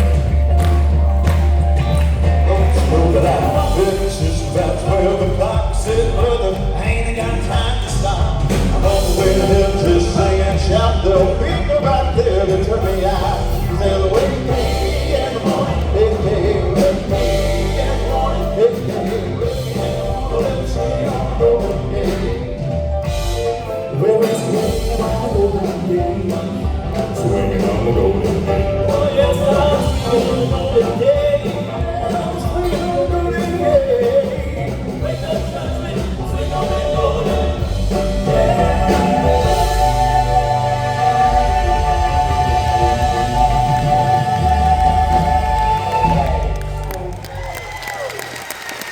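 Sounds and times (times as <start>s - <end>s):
upbeat band with bass and guitar: 0.0s - 48.9s
vocal quartet singing harmony: 2.3s - 22.7s, 24.2s - 47.0s.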